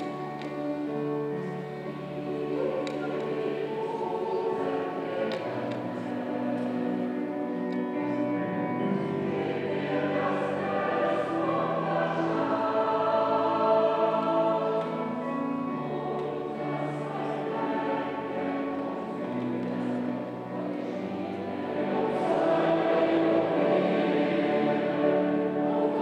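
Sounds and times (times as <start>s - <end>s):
choir singing sacred music: 0.0s - 26.0s.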